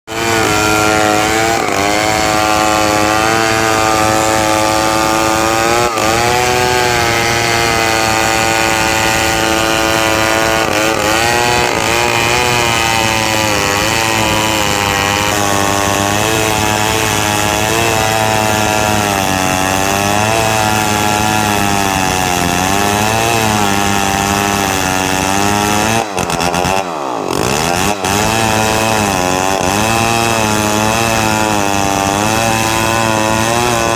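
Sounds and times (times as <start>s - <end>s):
chainsaw cutting timber: 0.1s - 33.9s.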